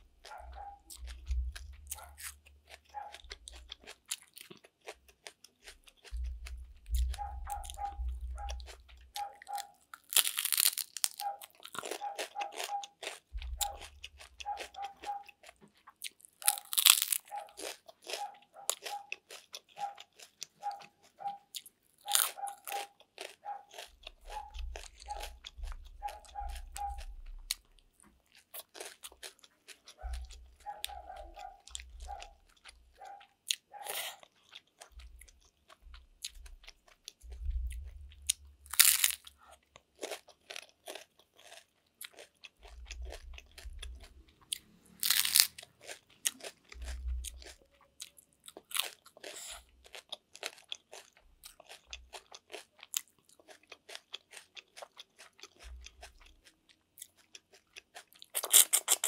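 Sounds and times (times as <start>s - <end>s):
wet chewing and lip sounds: 0.0s - 59.0s
crunchy bites of pork rind: 0.2s - 59.0s.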